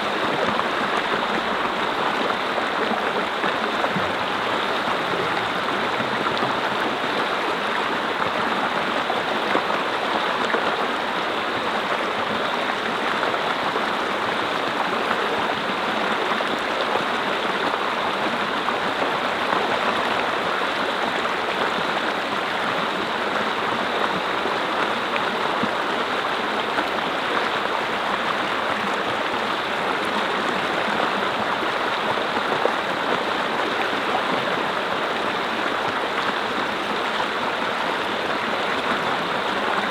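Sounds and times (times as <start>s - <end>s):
brook flowing over rocks: 0.0s - 39.9s.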